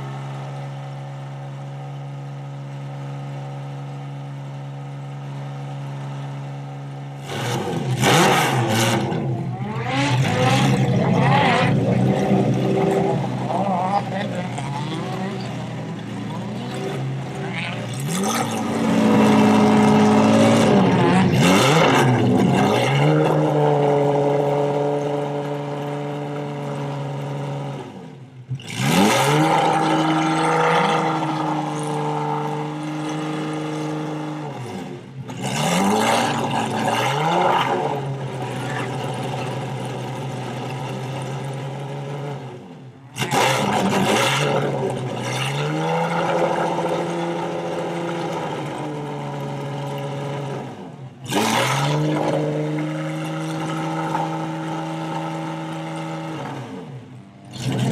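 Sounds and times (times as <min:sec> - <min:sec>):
car engine revving: 0:07.1 - 0:57.9.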